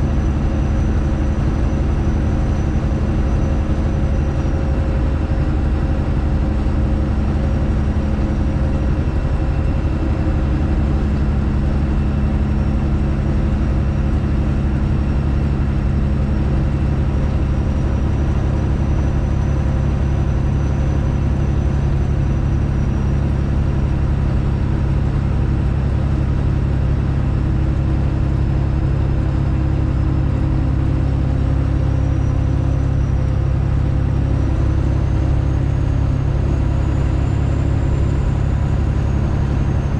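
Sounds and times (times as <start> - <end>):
loud diesel truck engine: 0.0 - 39.9.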